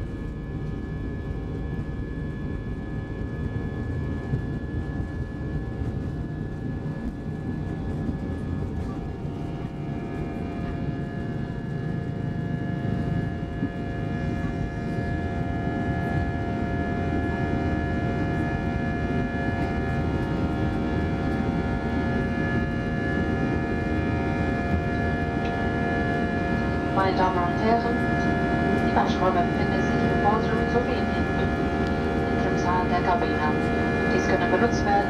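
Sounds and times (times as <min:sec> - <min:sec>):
airplane cabin engine drone: 0:00.0 - 0:35.0.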